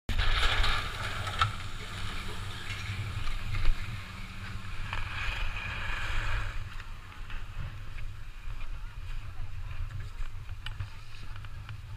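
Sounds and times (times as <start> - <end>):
skis scraping on snow: 0.1 - 11.9
wind rumble on microphone: 0.1 - 11.9.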